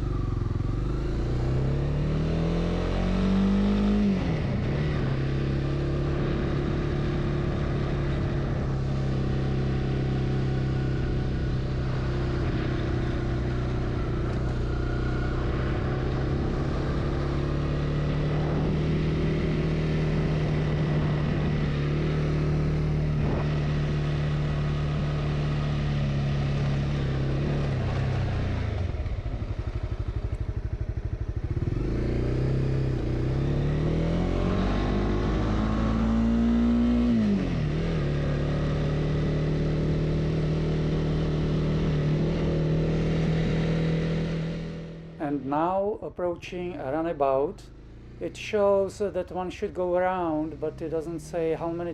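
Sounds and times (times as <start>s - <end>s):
motorcycle engine running: 0.0s - 45.2s, 47.6s - 51.9s.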